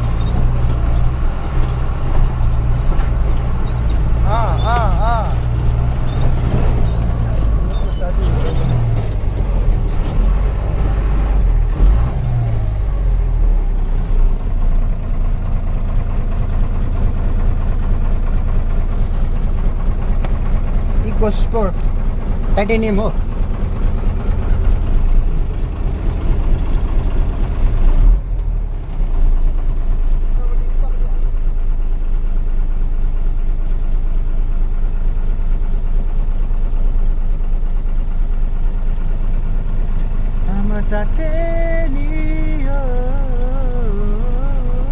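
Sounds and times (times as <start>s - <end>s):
truck engine droning: 0.0s - 44.9s.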